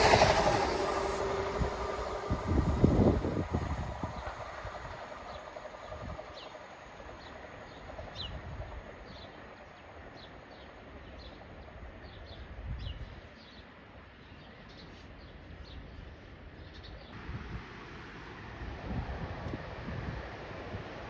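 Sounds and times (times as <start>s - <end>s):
diesel train low rumble: 0.0s - 21.0s.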